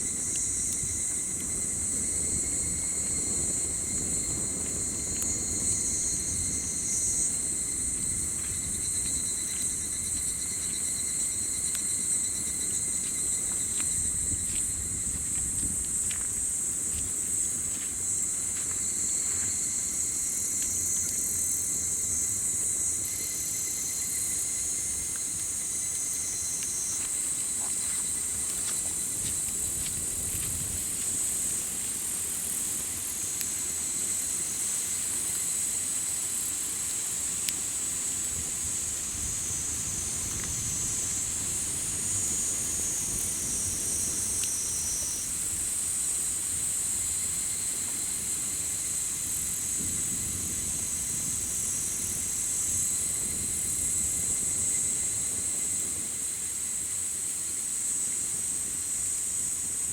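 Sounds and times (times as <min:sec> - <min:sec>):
campfire crackling: 0:00.0 - 0:54.8
insects trilling: 0:00.0 - 0:59.9.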